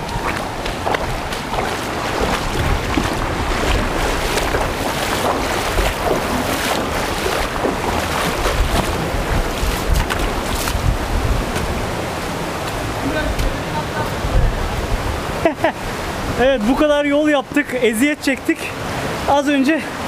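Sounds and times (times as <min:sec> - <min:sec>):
wind buffeting microphone: 0:00.0 - 0:17.0
creek water rushing: 0:00.0 - 0:20.0.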